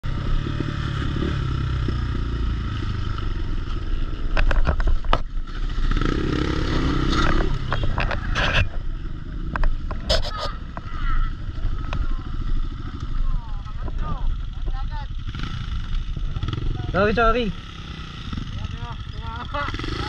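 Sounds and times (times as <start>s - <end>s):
dirt bike engine: 0.0s - 20.0s
knocks and scraping of bikes: 0.1s - 20.0s.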